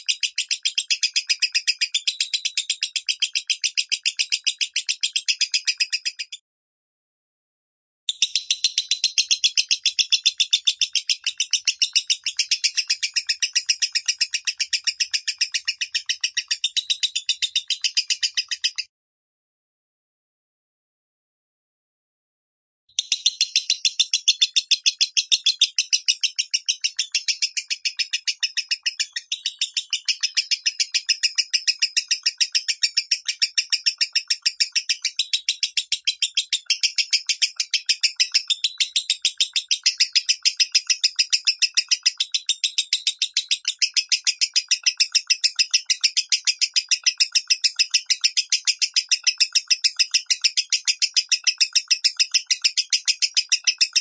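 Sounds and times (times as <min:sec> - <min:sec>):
lovebird chirping: 0:00.0 - 0:06.4, 0:08.1 - 0:18.9, 0:23.0 - 0:54.0.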